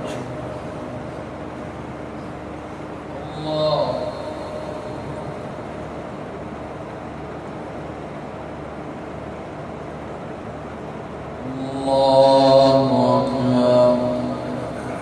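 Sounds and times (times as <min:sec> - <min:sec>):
room noise hum and hiss: 0:00.0 - 0:15.0.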